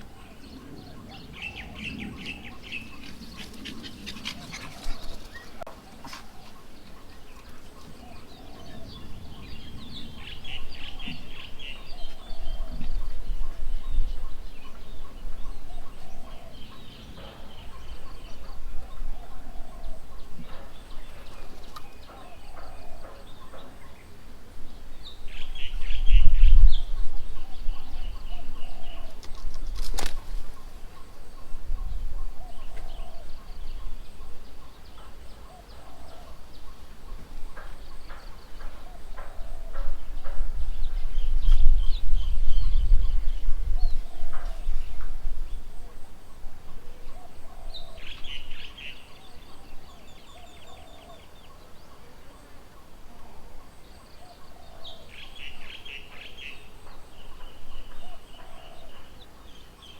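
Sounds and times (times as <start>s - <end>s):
birds chattering chirps: 0.0s - 59.9s.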